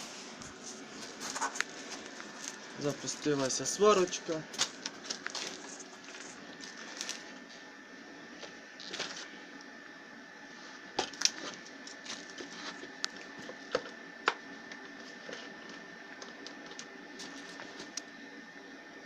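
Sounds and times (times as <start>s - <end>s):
welding machine humming: 0.0s - 19.0s.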